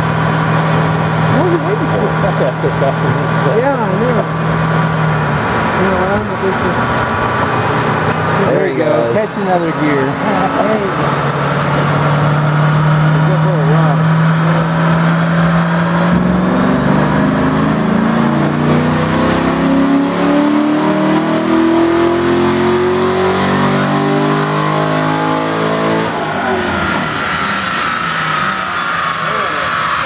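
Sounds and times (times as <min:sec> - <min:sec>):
car engine at full throttle: 0:00.0 - 0:30.0
falling engine whine: 0:00.0 - 0:30.0.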